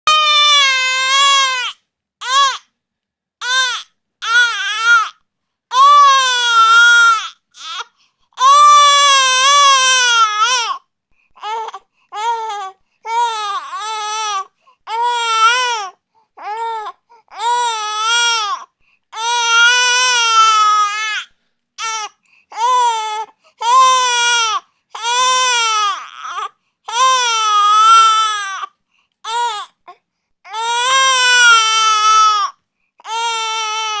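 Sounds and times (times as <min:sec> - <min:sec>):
infant crying: 0:00.1 - 0:02.7, 0:03.4 - 0:10.8, 0:11.4 - 0:34.0.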